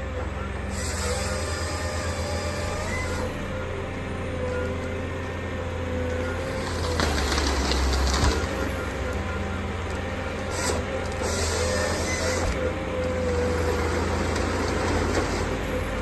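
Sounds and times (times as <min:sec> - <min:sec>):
rough grinding noise: 0:00.0 - 0:16.0
wood-processing machine engine running: 0:00.0 - 0:16.0.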